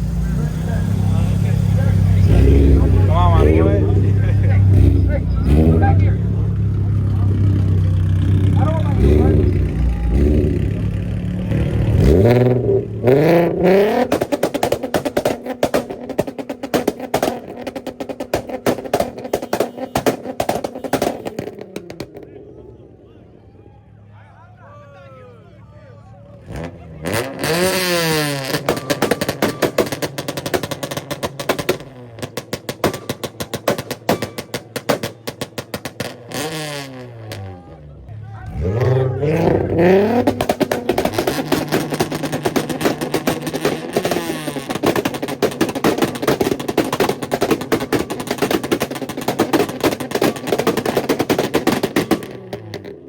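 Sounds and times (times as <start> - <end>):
exhaust pops and bangs: 0.0 - 22.4, 26.5 - 37.7, 38.4 - 53.0
car engine revving: 0.0 - 23.4, 26.2 - 53.0.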